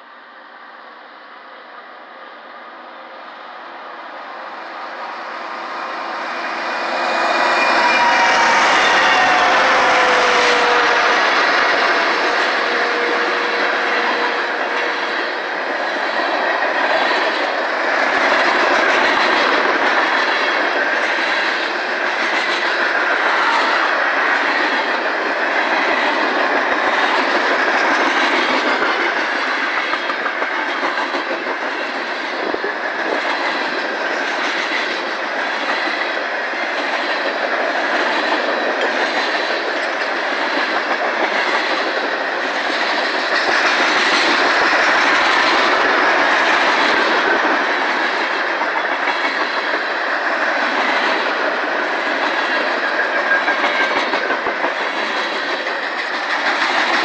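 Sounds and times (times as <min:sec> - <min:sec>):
train wheels clattering on rails: 0:05.4 - 0:57.0.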